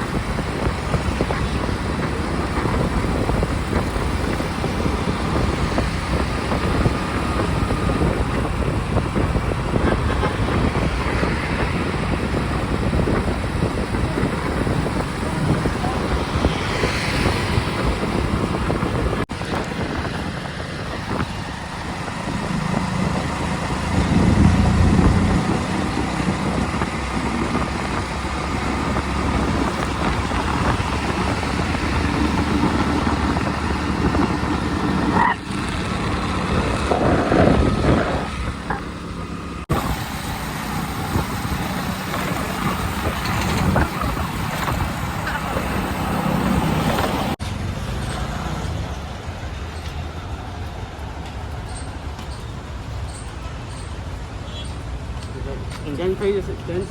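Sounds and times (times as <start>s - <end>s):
road traffic: 0.0s - 56.9s.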